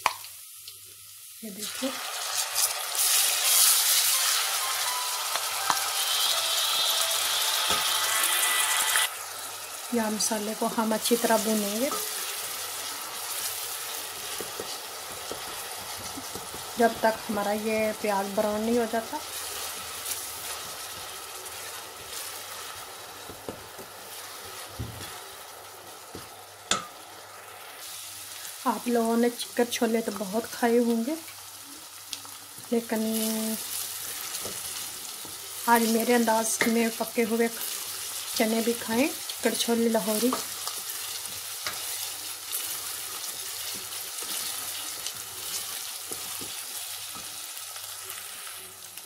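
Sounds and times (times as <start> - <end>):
onions sizzling in hot oil: 0.0 - 49.0.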